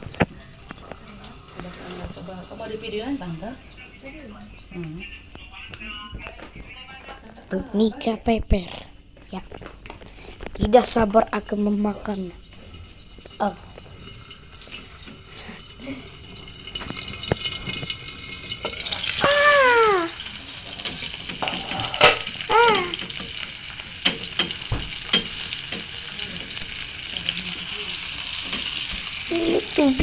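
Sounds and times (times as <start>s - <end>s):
steak sizzling in a pan: 0.0s - 6.3s, 8.9s - 30.0s.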